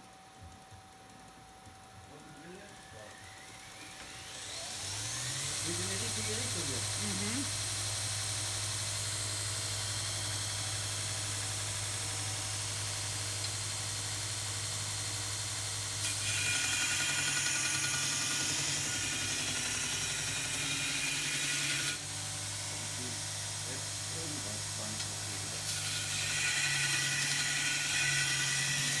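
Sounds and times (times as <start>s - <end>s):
belt grinder motor hum: 2.1s - 29.0s
metal grinding hiss: 2.2s - 29.0s.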